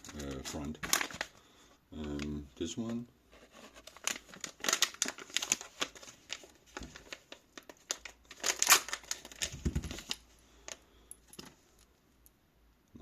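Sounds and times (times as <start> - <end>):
packaging crinkling and rustling: 0.0 - 1.4, 2.0 - 11.9.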